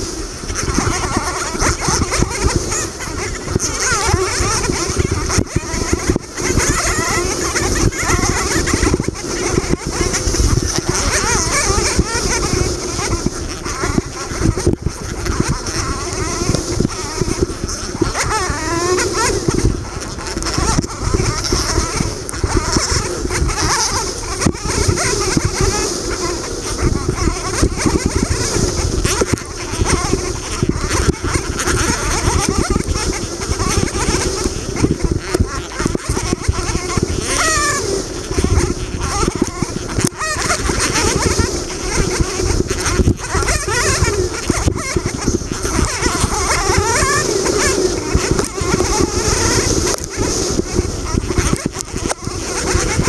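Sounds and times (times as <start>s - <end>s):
dirt bike engine revving: 0.0s - 53.0s
wind buffeting microphone: 0.0s - 53.0s.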